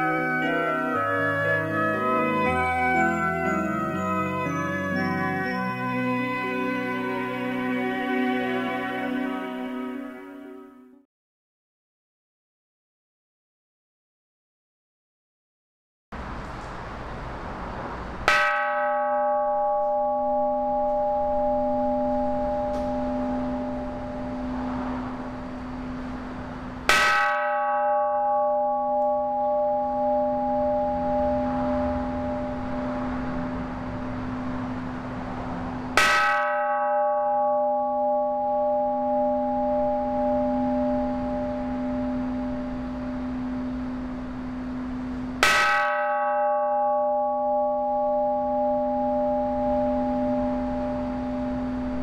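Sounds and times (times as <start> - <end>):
bronze temple bell ringing: 0.0 - 11.0, 18.2 - 52.0.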